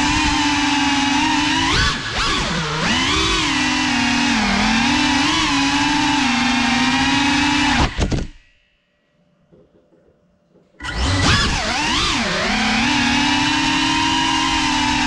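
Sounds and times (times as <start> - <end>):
drone motors whining: 0.0 - 8.4, 10.8 - 15.0.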